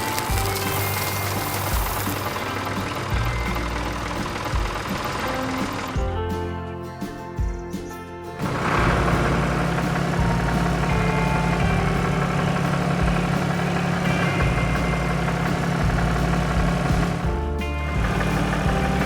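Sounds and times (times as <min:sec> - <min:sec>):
tractor engine idling: 0:00.0 - 0:06.0, 0:08.4 - 0:19.0.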